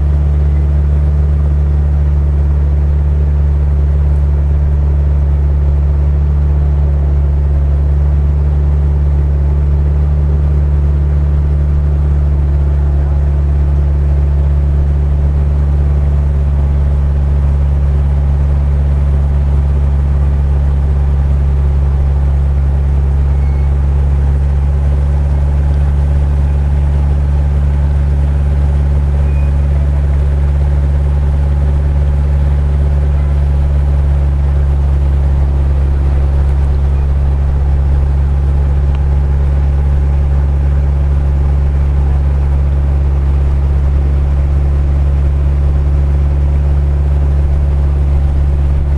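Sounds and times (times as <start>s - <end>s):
motorboat engine droning: 0.0s - 48.9s.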